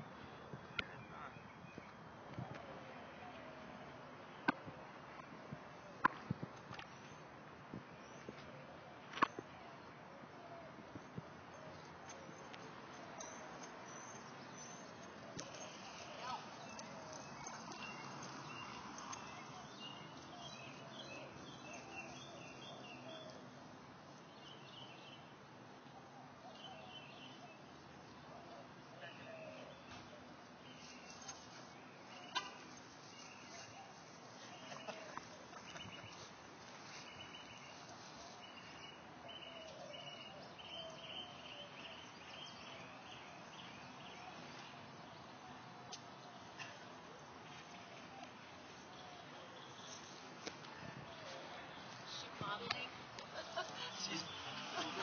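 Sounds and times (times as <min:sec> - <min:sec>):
birds chirping faintly: 0:00.0 - 0:55.0
outdoor background hiss: 0:00.0 - 0:55.0.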